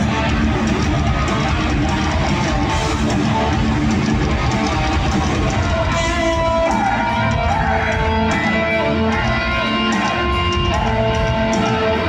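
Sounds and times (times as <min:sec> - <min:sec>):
bass: 0:00.0 - 0:12.0
distorted electric guitars: 0:00.0 - 0:12.0
drums: 0:00.0 - 0:12.0.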